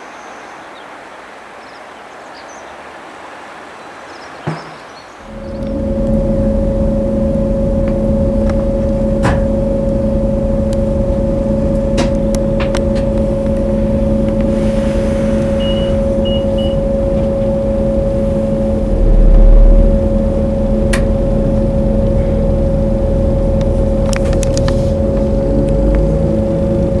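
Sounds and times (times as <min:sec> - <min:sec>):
train running: 0:05.2 - 0:27.0.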